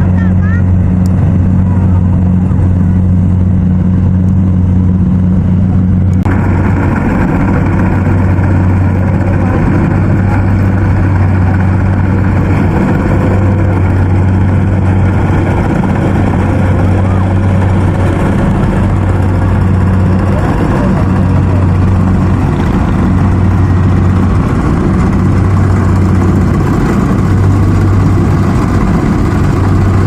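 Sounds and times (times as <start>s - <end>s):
combine harvester engine droning: 0.0s - 30.0s
loud high rushing noise: 4.7s - 30.0s.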